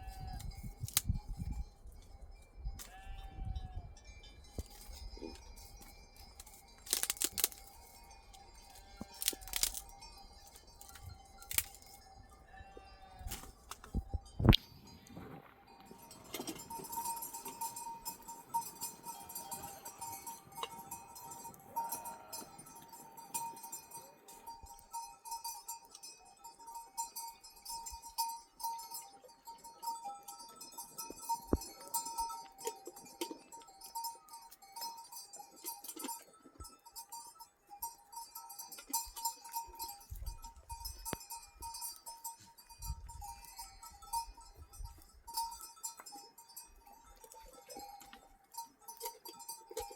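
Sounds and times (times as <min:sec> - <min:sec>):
livestock bells clinking: 0:00.0 - 0:49.9.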